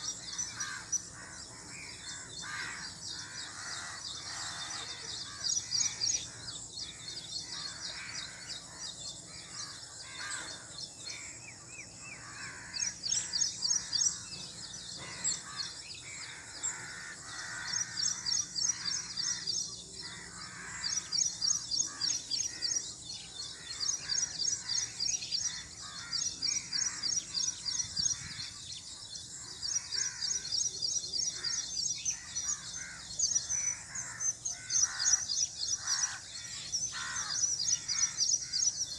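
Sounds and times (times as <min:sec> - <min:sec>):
birds chirping: 0:00.0 - 0:38.9
rough low bird calls: 0:00.0 - 0:38.9.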